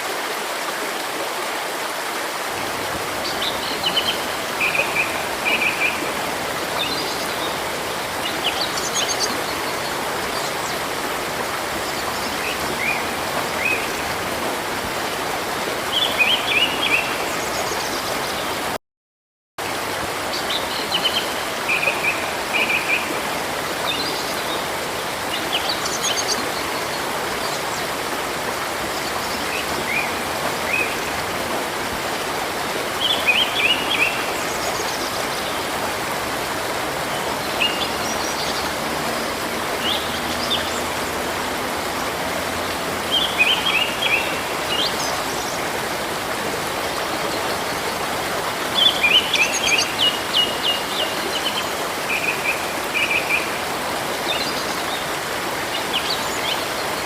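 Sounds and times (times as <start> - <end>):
stream water rushing: 0.0 - 18.8, 19.6 - 57.0.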